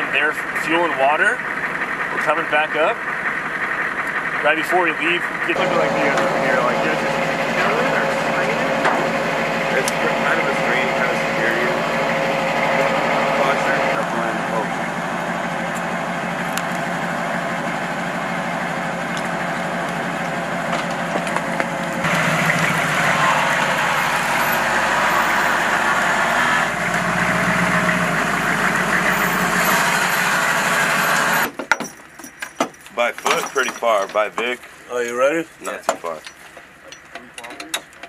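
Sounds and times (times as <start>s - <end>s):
diesel engine idling: 0.0s - 33.1s.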